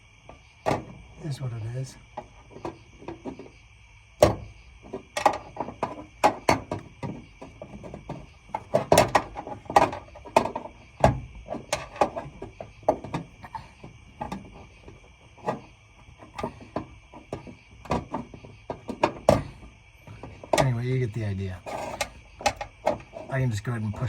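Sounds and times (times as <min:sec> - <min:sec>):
bolts and plate clanking: 0:00.2 - 0:01.2, 0:02.1 - 0:03.5, 0:04.2 - 0:24.0.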